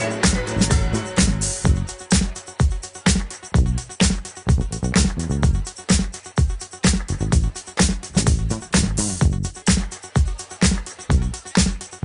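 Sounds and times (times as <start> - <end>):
dance music with bass: 0.0 - 12.0.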